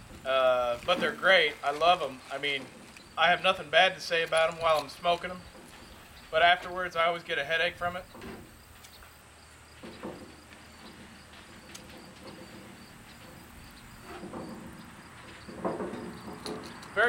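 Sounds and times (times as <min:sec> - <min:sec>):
faint crickets chirping: 0:00.1 - 0:17.0.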